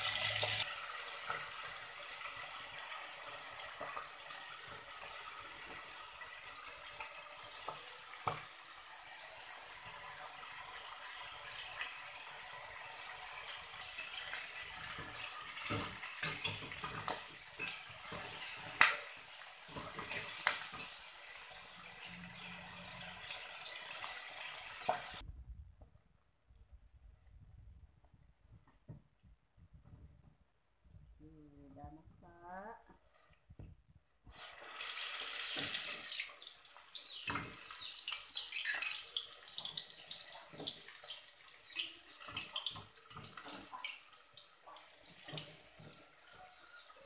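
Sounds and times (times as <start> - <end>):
oil sizzling hiss: 0.0 - 25.2, 34.2 - 47.0.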